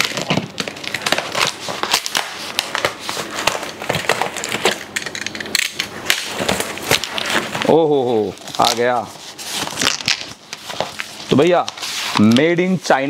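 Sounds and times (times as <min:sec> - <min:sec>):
tape and cardboard crinkling: 0:00.0 - 0:13.0.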